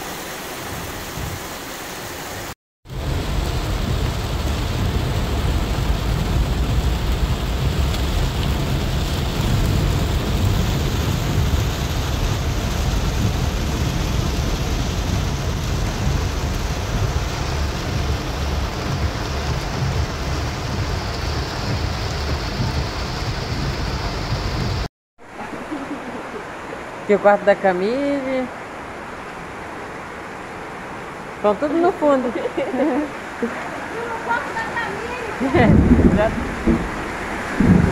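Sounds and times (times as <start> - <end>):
heavy rain on car roof: 0.0 - 24.9, 31.9 - 37.9.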